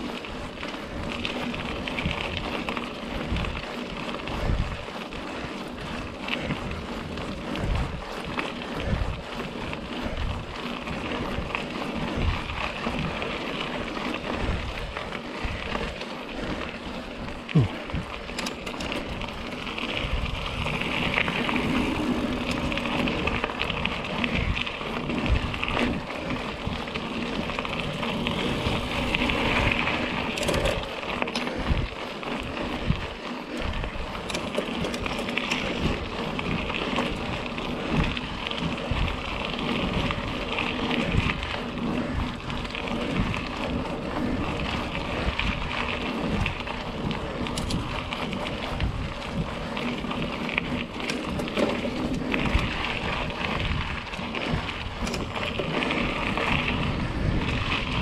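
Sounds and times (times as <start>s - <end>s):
bike knocking and rattling: 0.0s - 58.0s
bike tyres on dirt and stones: 0.0s - 58.0s.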